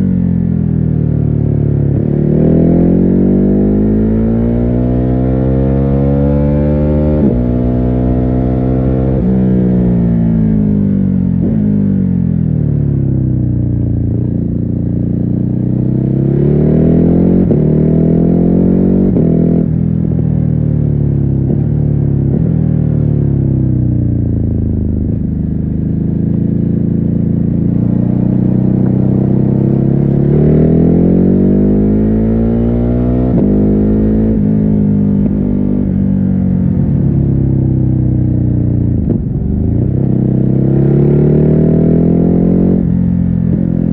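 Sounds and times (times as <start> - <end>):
muffled motorcycle engine revving: 0.0 - 43.9.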